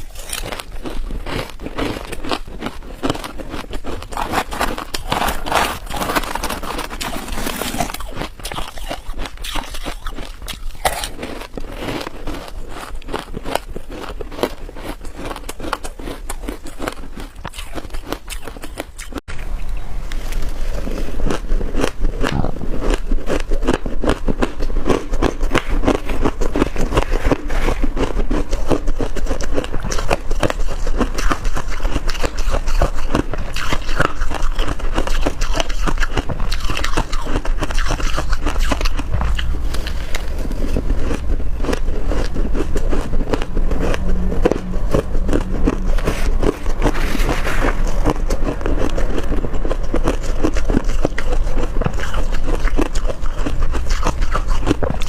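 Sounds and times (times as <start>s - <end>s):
frost and ice crunching: 0.0s - 55.0s.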